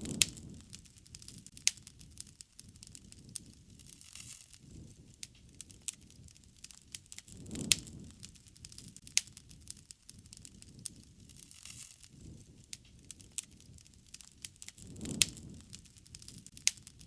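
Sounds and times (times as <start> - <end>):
low rumble of flame: 0.0 - 17.0
wood fire crackling and popping: 0.0 - 17.0.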